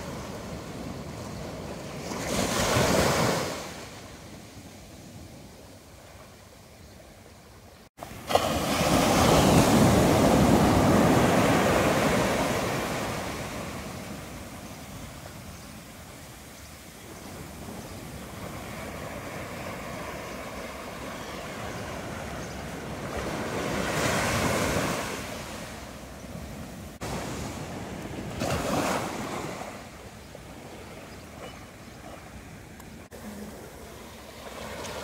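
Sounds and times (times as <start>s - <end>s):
small waves washing on shore: 0.0s - 6.4s, 8.0s - 35.0s.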